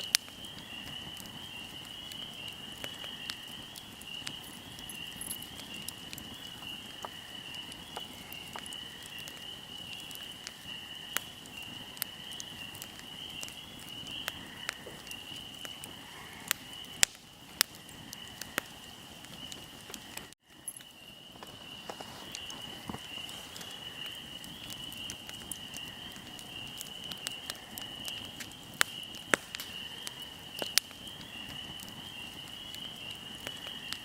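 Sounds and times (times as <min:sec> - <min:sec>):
fire crackling and popping: 0:00.0 - 0:34.0
insects chirring: 0:00.0 - 0:34.0.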